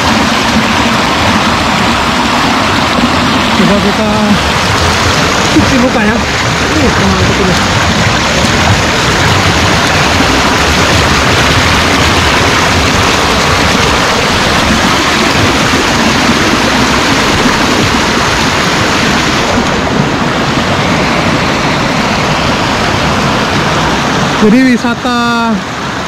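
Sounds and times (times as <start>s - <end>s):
water rushing over boulders: 0.0s - 26.0s.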